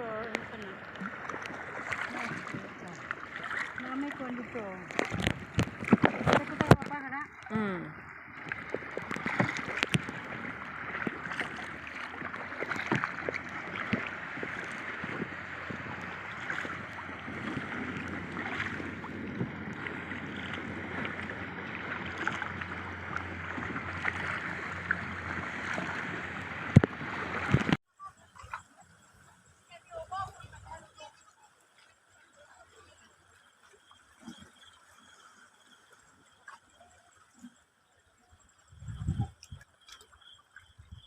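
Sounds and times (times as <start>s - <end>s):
kayak paddle splashing water: 0.0s - 37.6s.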